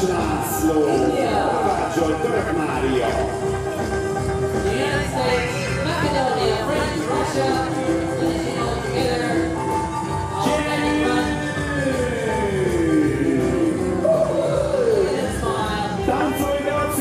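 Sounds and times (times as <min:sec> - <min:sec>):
music with singing: 0:00.0 - 0:17.0.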